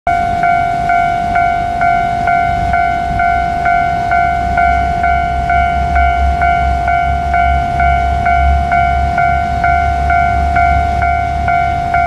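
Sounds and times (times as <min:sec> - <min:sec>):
level crossing bell clanging: 0:00.1 - 0:12.0.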